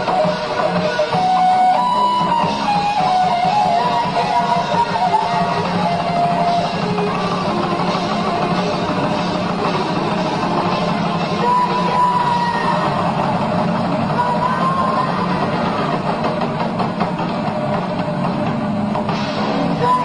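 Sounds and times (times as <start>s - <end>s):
distorted electric guitars: 0.0s - 20.0s
drum kit: 0.0s - 20.0s.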